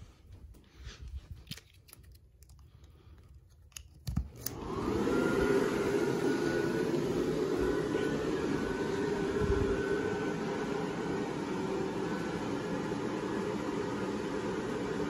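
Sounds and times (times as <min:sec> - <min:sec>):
blower fan whirring: 0:00.0 - 0:15.0.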